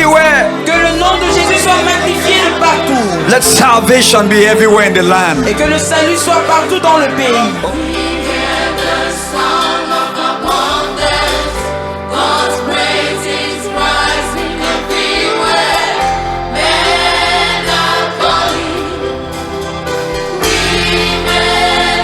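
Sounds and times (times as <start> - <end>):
gospel choir singing: 0.0 - 22.0
instrumental backing with bass line: 0.0 - 22.0.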